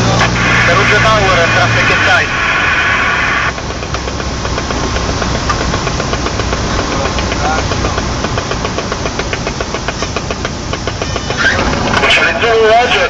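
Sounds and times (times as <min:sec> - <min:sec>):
airplane engine droning in cabin: 0:00.0 - 0:13.0.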